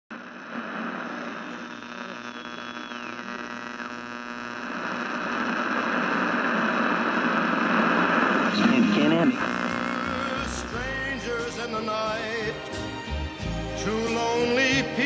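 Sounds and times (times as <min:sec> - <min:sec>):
television static hiss and hum: 0:00.1 - 0:12.7.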